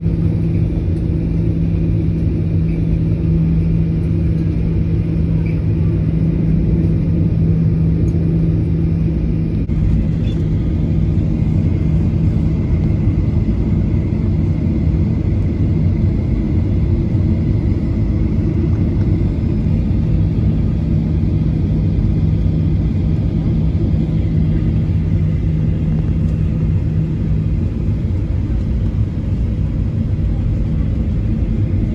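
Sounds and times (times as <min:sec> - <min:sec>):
jet engines and airflow rumble: 0:00.0 - 0:31.9
low hum: 0:00.0 - 0:31.9.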